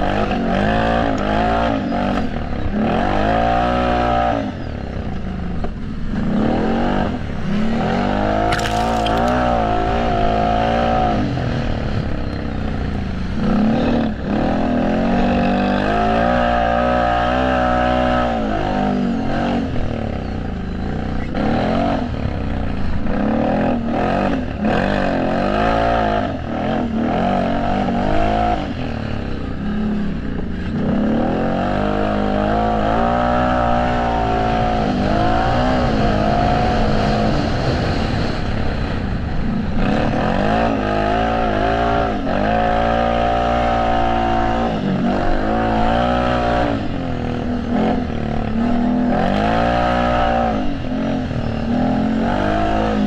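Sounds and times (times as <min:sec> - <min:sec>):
off-road engines revving: 0:00.0 - 0:53.0.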